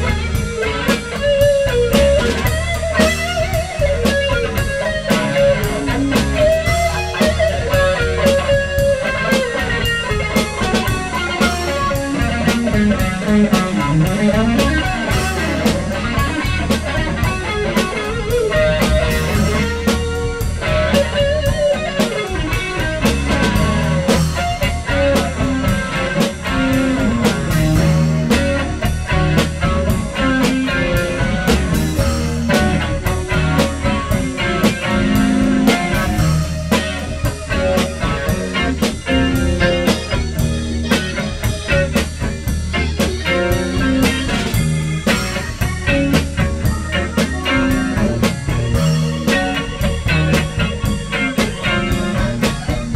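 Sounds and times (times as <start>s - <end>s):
drum kit beat: 0.0s - 52.9s
electric guitar: 0.0s - 52.9s.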